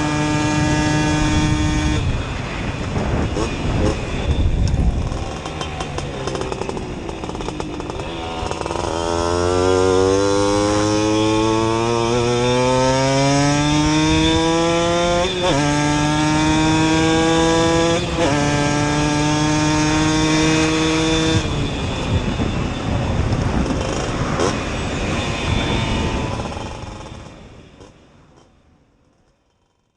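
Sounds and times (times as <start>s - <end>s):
moped engine accelerating: 0.0s - 29.9s.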